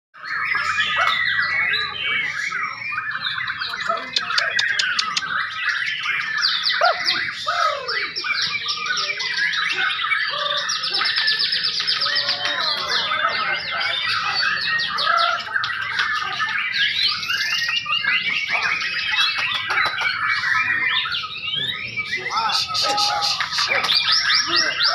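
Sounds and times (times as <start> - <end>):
songbird trills and whistles: 0.2 - 24.9.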